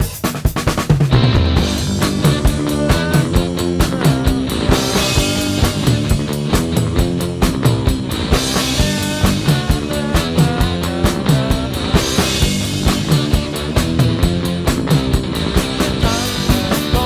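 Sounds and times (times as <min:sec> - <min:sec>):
rock music with drums and guitars: 0:00.0 - 0:17.0.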